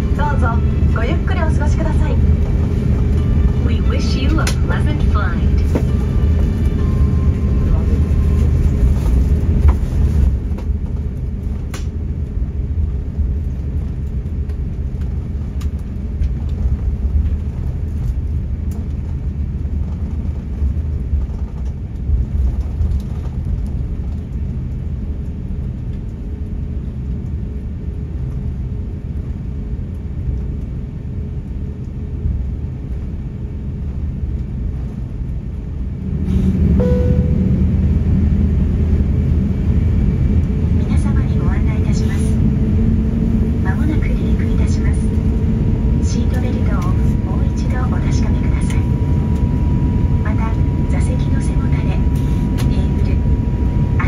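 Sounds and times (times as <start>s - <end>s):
airplane cabin rumble while taxiing: 0.0s - 54.0s.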